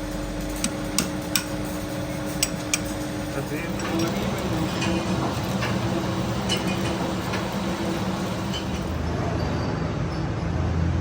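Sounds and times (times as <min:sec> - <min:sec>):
machine hum: 0:00.0 - 0:09.5.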